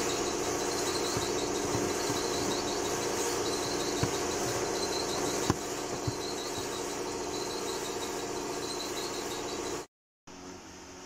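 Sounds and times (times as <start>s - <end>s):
faint high chirp: 0.0s - 9.9s
steady hum: 0.0s - 11.0s.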